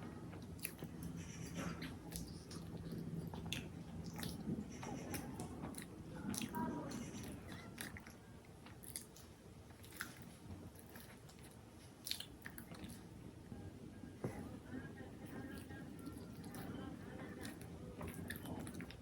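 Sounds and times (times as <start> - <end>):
person chewing food: 0.3 - 13.2, 15.5 - 19.0.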